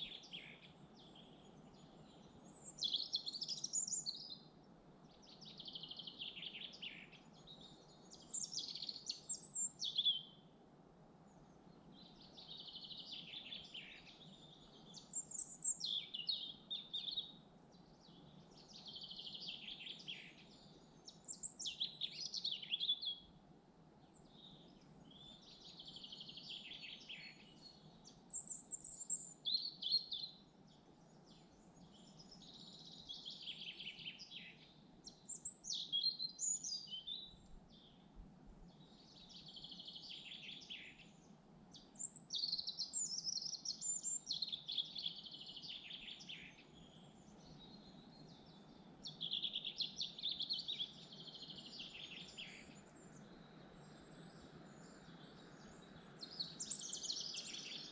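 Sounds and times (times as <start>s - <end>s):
low background hiss: 0.0s - 57.9s
songbirds chirping and trilling: 0.0s - 57.9s.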